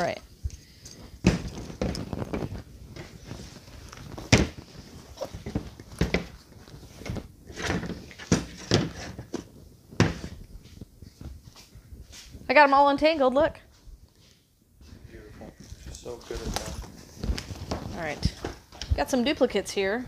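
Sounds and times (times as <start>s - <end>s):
rustling: 0.0s - 12.6s, 13.6s - 19.1s.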